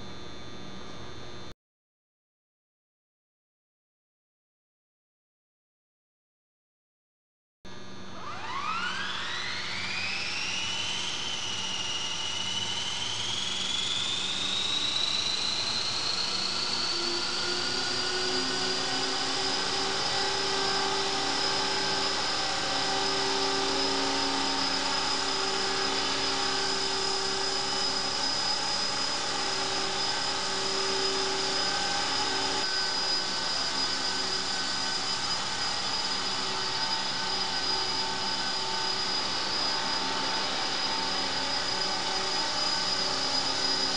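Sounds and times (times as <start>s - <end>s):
rc helicopter motor whine: 8.1s - 43.9s.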